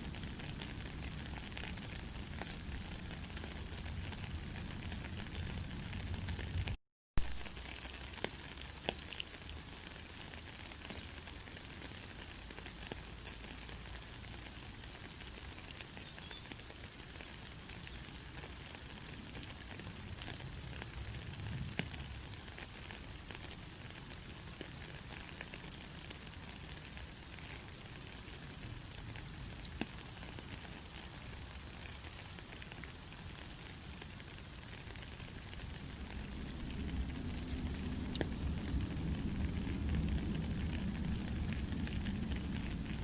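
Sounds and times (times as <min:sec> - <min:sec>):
faint crackles and ticks: 0:00.0 - 0:43.0.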